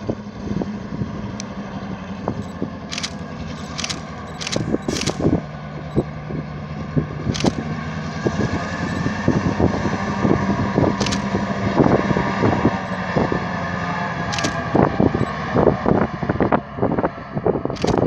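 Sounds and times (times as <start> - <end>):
train low drone: 0.0 - 18.0.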